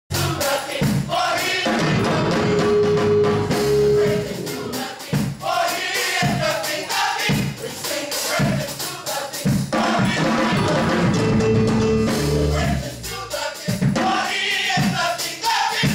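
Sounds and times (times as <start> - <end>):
band accompaniment: 0.1 - 15.9
gospel choir singing: 0.1 - 15.9
steady beat: 0.1 - 15.9.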